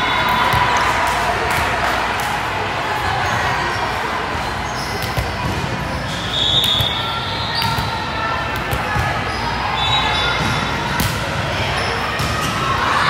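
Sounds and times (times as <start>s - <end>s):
hubbub of voices: 0.0s - 13.0s.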